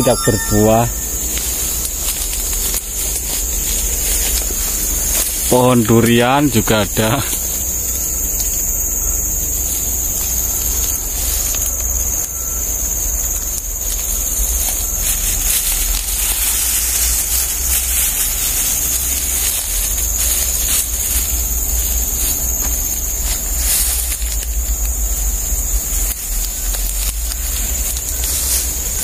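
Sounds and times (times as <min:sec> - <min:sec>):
insects droning: 0:00.0 - 0:29.0
rustling of ferns and undergrowth: 0:00.1 - 0:29.0.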